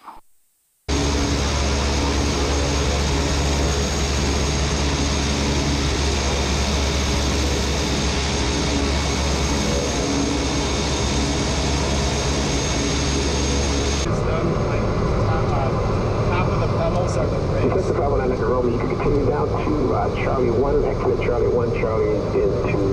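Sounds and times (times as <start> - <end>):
turboprop engine running: 0.9 - 22.9.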